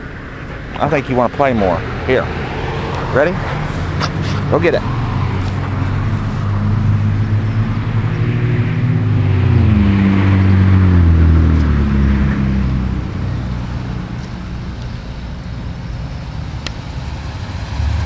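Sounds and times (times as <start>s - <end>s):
vehicle driving past: 0.0s - 18.0s.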